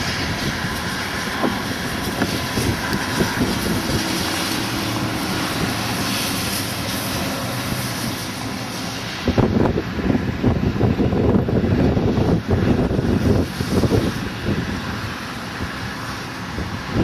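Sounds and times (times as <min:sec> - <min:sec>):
outdoor rushing noise: 0:00.0 - 0:17.0
wind buffeting microphone: 0:00.0 - 0:17.0.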